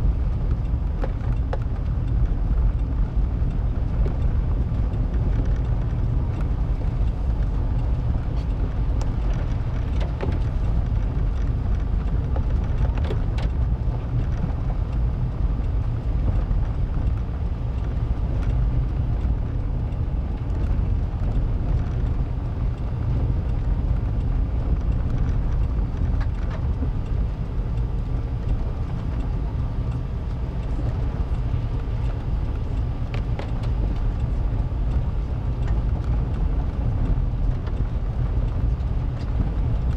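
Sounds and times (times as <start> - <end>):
vehicle rumbling on gravel: 0.0 - 39.9.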